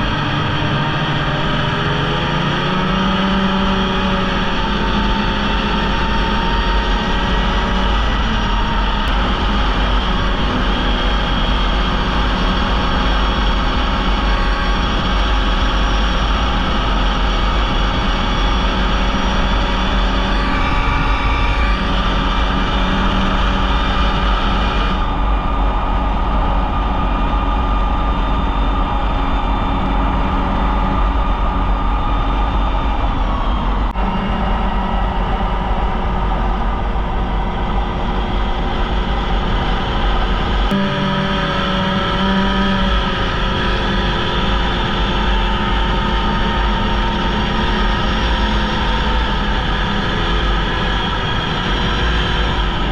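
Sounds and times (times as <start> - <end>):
snowmobile engine drone: 0.0 - 52.9
track and wind noise: 0.0 - 52.9.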